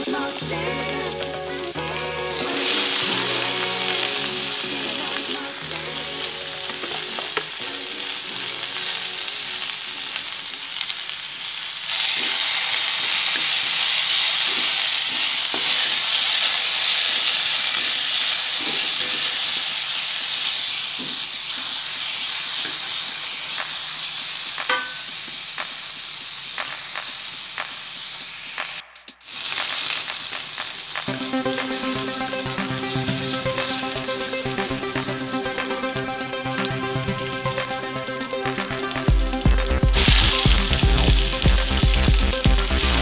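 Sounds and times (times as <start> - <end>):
stir-frying sizzle: 0.0 - 43.0.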